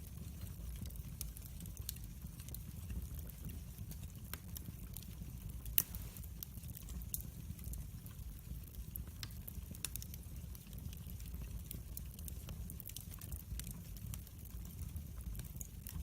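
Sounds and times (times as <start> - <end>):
log fire crackling and popping: 0.0 - 16.0
low rumble of flames: 0.0 - 16.0.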